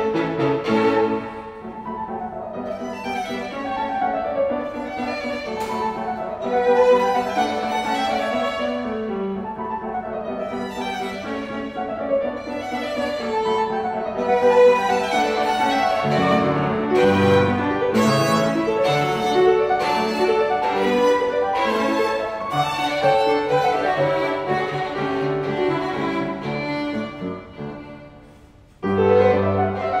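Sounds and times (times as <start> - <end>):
piano accompaniment: 0.0 - 30.0
violin melody: 0.0 - 30.0.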